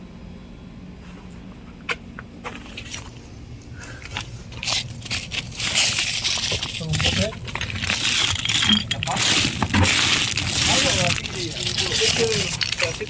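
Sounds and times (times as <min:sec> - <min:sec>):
rubble crunching and scraping: 0:01.0 - 0:13.0.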